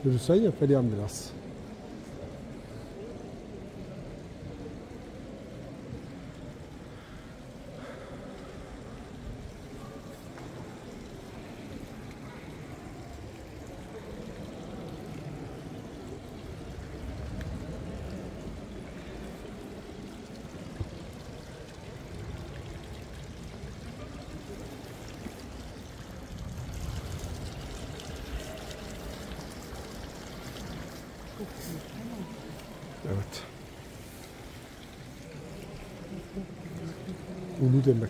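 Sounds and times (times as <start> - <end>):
fountain water splashing: 0.0 - 38.0.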